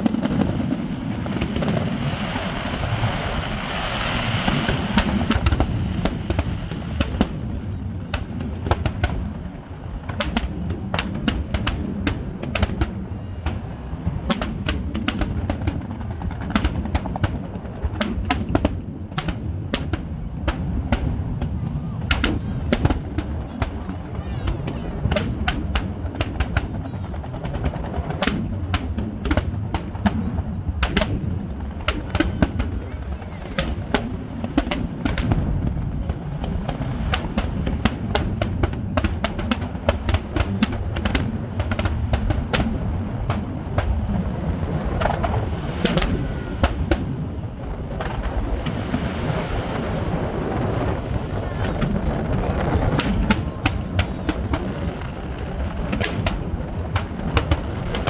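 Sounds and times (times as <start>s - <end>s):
fireworks banging: 0.0s - 58.0s.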